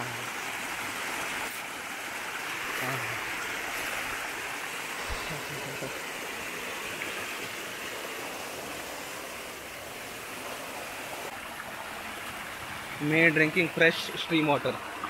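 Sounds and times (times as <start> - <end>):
waterfall and stream running: 0.0 - 15.0.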